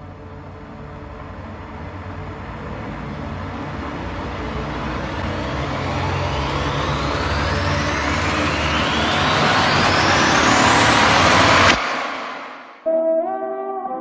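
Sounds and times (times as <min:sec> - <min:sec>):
low bass drone: 0:00.0 - 0:12.7
rising hissing noise sweep: 0:00.0 - 0:12.8.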